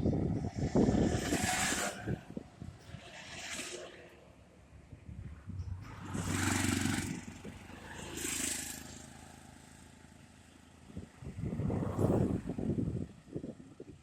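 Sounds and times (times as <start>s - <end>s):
vehicles passing by: 0.0s - 14.0s.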